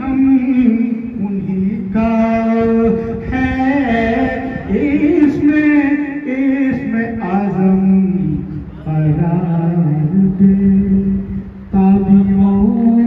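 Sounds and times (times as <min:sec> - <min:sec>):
man chanting into microphone: 0:00.0 - 0:13.0.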